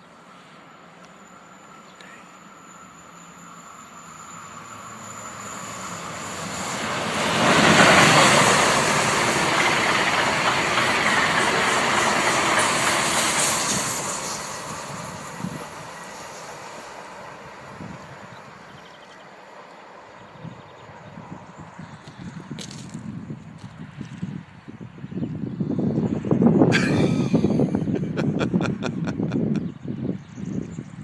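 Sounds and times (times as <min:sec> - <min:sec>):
train passing on rails: 0:00.0 - 0:31.0.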